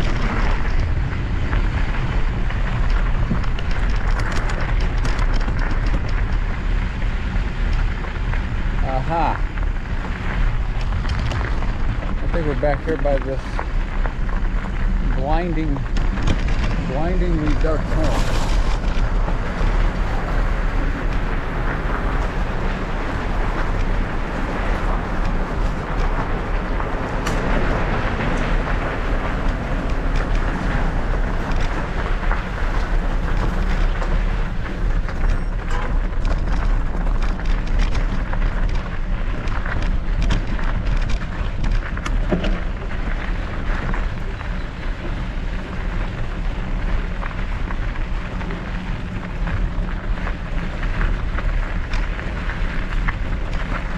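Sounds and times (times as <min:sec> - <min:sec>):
bike tyres rumbling on gravel: 0:00.0 - 0:53.9
stones and bike rattling: 0:00.0 - 0:53.9
wind noise on microphone: 0:00.0 - 0:53.9.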